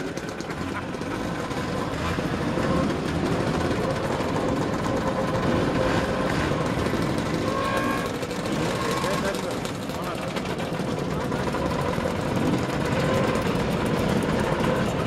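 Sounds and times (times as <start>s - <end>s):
scooter engines droning: 0.0s - 15.0s.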